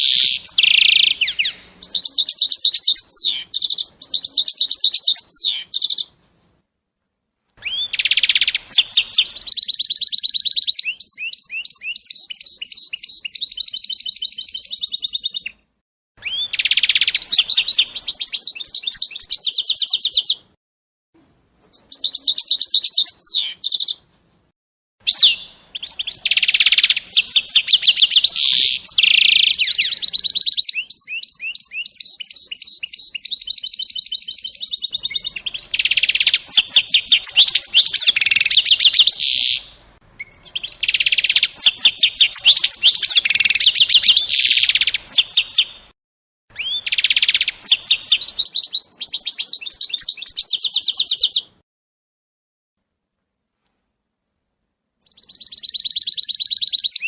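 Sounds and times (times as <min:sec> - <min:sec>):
songbird singing trills: 0:00.0 - 0:06.2, 0:07.6 - 0:20.5, 0:21.6 - 0:24.0, 0:25.1 - 0:45.9, 0:46.5 - 0:51.6, 0:55.0 - 0:57.0.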